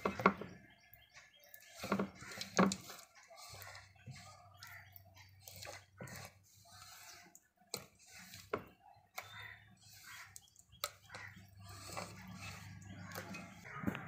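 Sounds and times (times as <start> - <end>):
hand mixing wet batter: 0.0 - 14.0.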